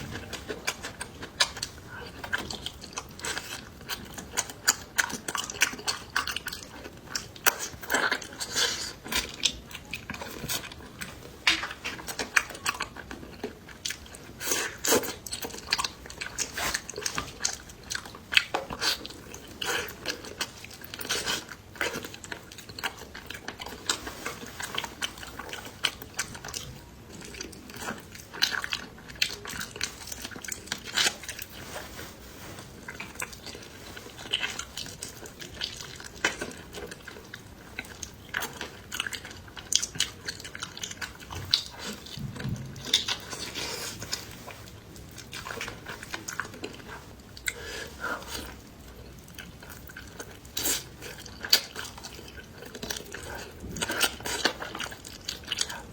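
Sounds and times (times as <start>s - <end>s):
person chewing and crunching: 0.0s - 55.9s.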